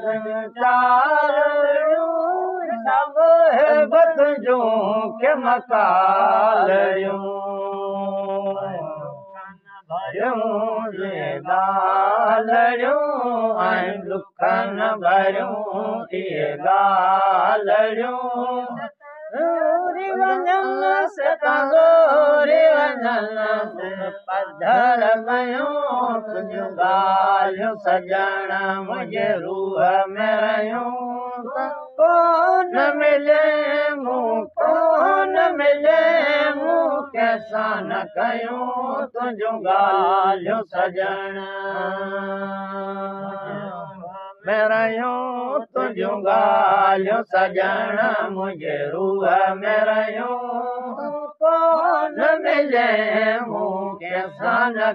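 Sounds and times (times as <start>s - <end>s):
men chanting unaccompanied: 0.0s - 54.9s.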